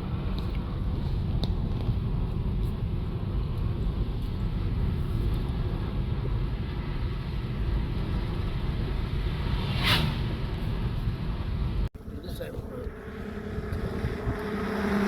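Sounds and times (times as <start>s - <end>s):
car engine and tyre noise: 0.0s - 15.0s.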